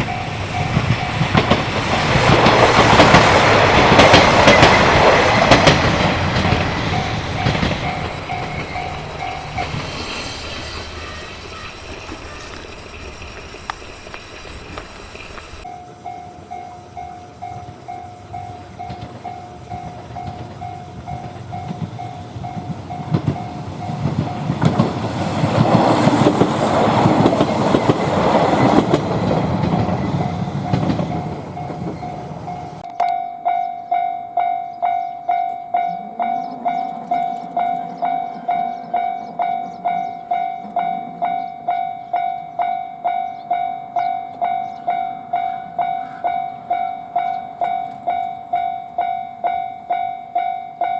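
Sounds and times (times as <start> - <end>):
level crossing warning bell: 0.0 - 24.6, 31.1 - 50.9
train passing: 0.0 - 50.9.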